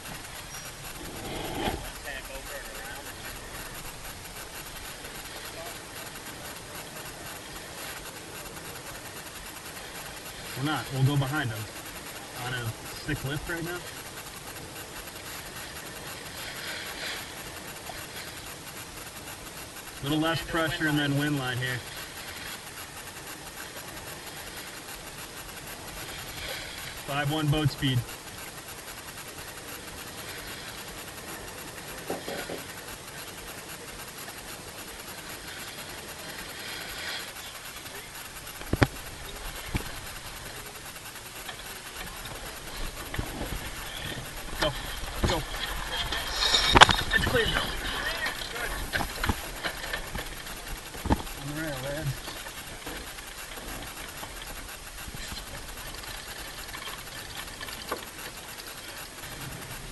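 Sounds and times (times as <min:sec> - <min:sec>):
water rushing along boat bow: 0:00.0 - 0:59.9.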